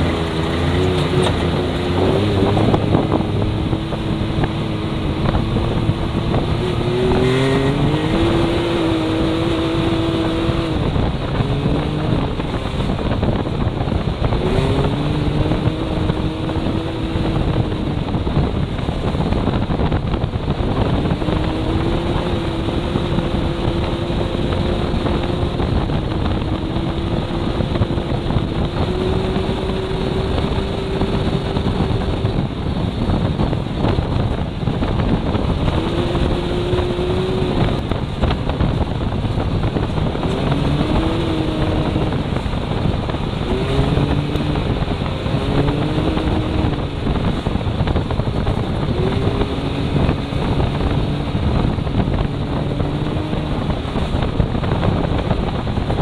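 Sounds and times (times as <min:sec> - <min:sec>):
vehicle engine running at speed: 0:00.0 - 0:56.0
wind noise: 0:00.0 - 0:56.0.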